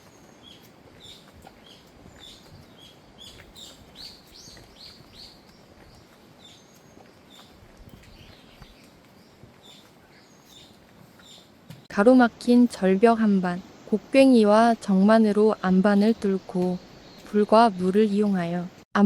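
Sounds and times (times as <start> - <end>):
small birds chirping: 0.0 - 18.8.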